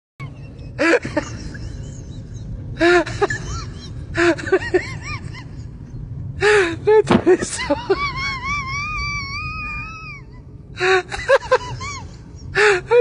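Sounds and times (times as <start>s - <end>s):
low rumble: 0.2s - 13.0s.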